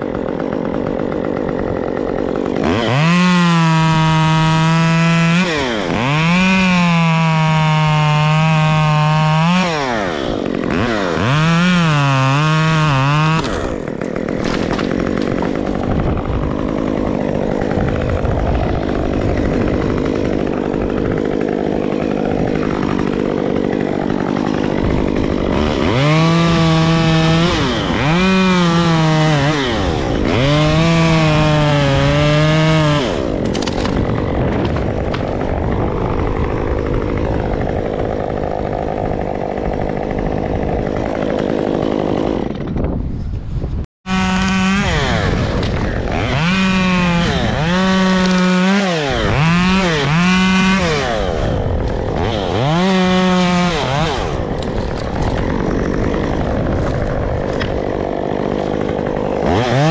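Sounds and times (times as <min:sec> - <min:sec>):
chainsaw revving: 0:00.0 - 0:42.9, 0:44.1 - 0:59.9.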